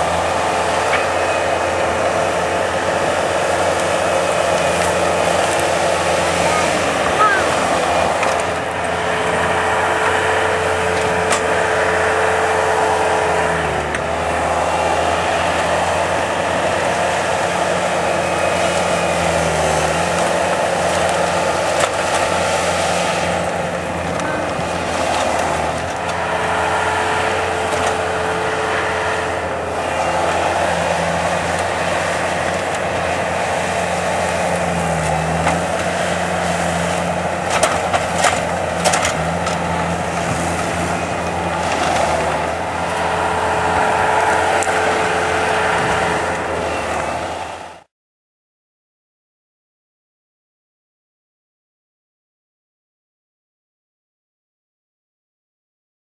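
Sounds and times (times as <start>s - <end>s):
skid loader engine running: 0.0s - 47.9s.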